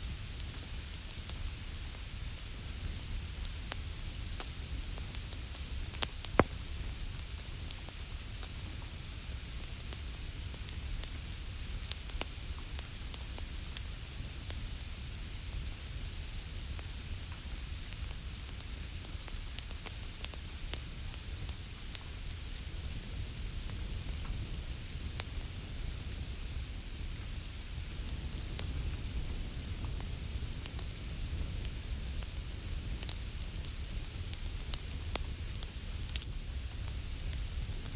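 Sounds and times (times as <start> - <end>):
fireplace fire crackling: 0.1 - 37.9.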